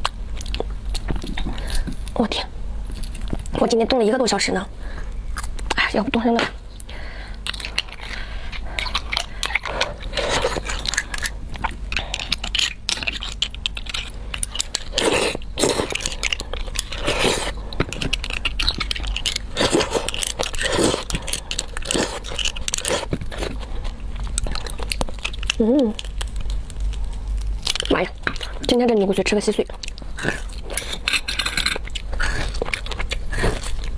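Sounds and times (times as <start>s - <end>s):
chewing with wet clicks and smacks: 0.0s - 3.8s, 5.0s - 33.9s.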